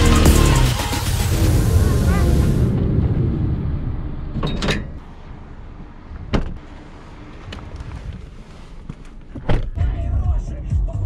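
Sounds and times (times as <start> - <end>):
vehicle engine rumbling: 0.0 - 10.7.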